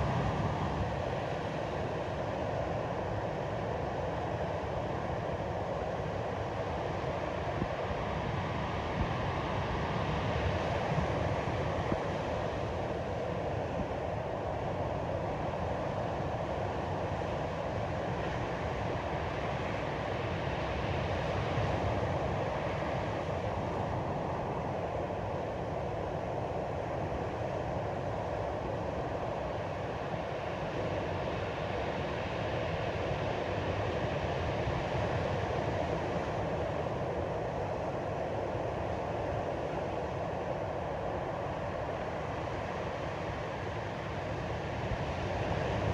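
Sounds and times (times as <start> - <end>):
wind: 0.0 - 45.9.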